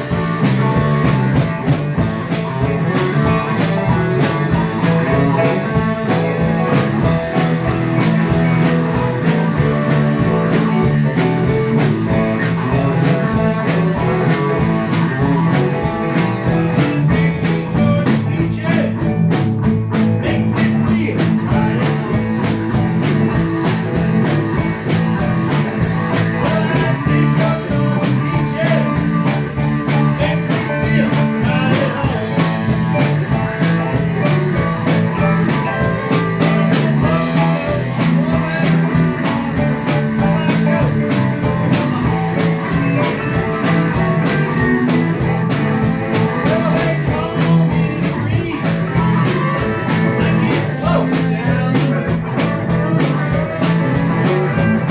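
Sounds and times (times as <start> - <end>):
rock band playing blues-rock: 0.0 - 54.9.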